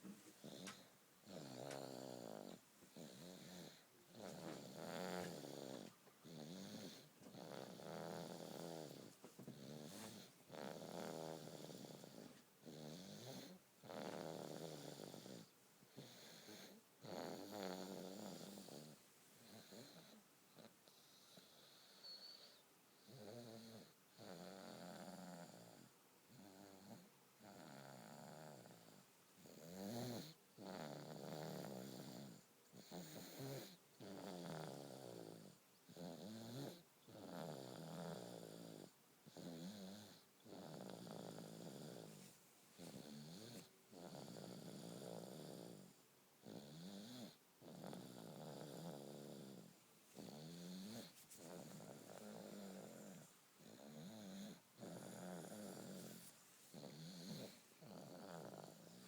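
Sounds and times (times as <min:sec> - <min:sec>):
baby snoring quietly: 0:00.0 - 0:59.0.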